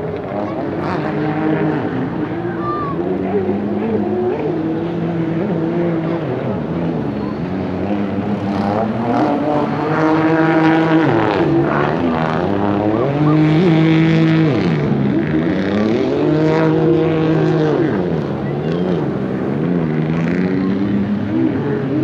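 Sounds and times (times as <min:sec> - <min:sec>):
personal watercraft engines revving: 0:00.0 - 0:22.0.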